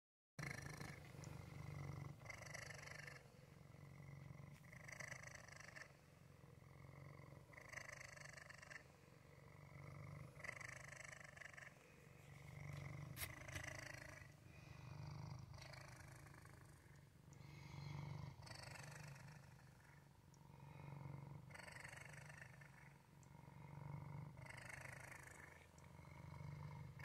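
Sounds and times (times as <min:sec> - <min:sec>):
cat purring: 0:00.4 - 0:27.0.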